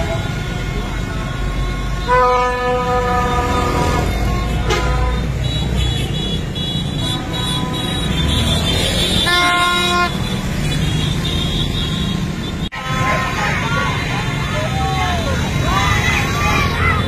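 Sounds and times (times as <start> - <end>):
vehicle horn: 0.0 - 14.2
motorbike and car traffic rumbling: 0.0 - 17.0.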